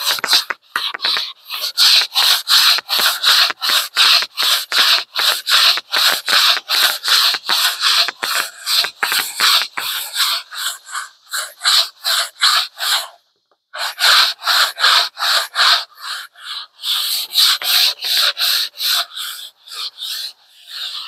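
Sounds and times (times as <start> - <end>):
sanding block rasping on wood: 0.0 - 13.1, 13.8 - 21.0.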